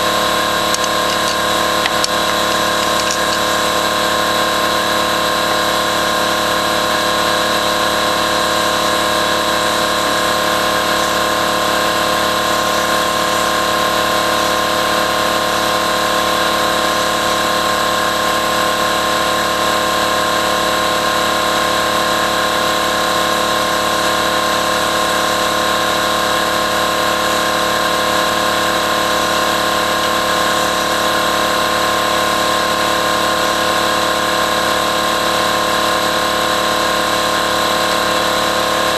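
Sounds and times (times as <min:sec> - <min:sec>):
steady machine drone: 0:00.0 - 0:38.9.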